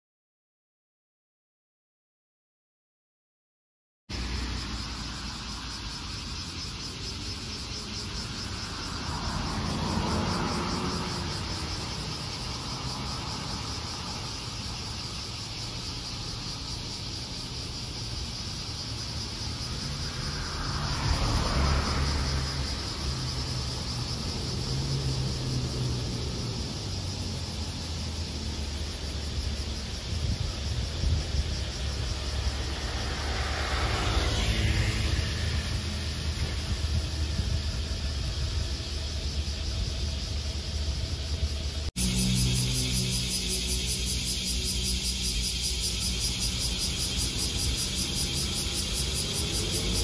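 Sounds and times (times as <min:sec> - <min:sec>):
vehicle passing: 0:04.2 - 0:50.0
bus diesel engine: 0:04.5 - 0:50.0.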